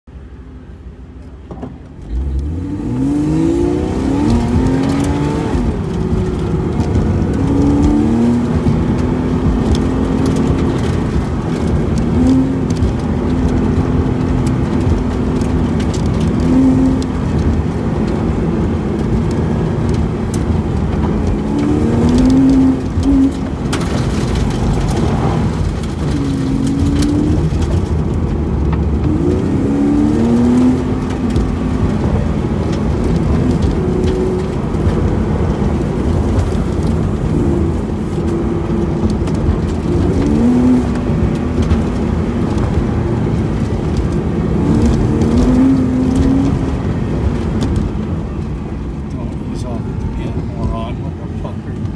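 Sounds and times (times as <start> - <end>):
car engine revving: 1.2 - 51.9
steady rush of noise: 2.2 - 51.9.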